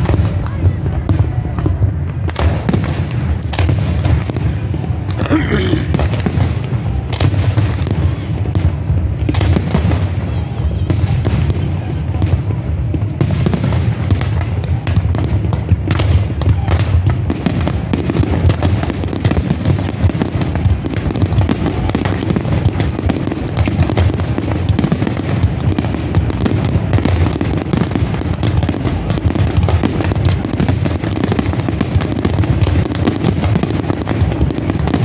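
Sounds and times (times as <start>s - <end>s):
fireworks booming and cracking: 0.0s - 35.0s.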